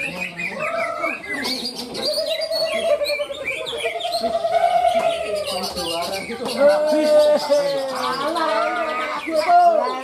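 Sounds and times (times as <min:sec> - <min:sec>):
birds chirping and warbling: 0:00.0 - 0:10.0.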